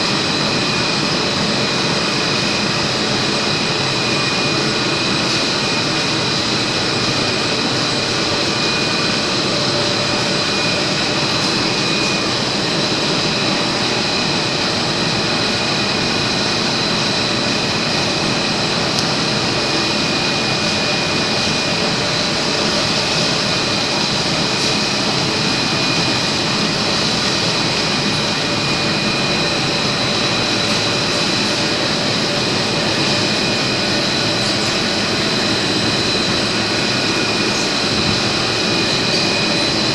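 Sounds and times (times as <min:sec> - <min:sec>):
high-pitched machine whines: 0:00.0 - 0:39.9
machine running: 0:00.0 - 0:39.9.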